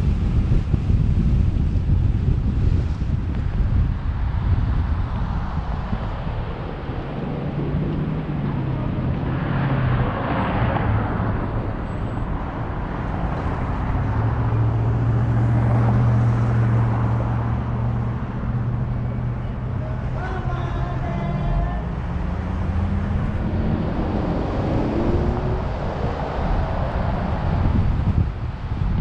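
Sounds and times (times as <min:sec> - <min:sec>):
low engine hum: 0:00.0 - 0:29.0
passing vehicle: 0:00.0 - 0:29.0
road and traffic noise: 0:00.0 - 0:29.0.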